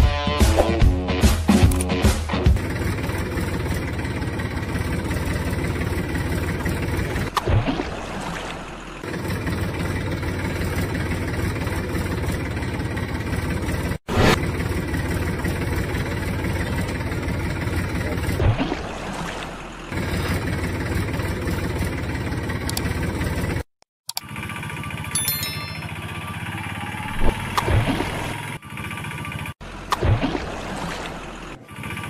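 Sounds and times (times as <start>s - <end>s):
tractor engine running: 1.6s - 32.0s.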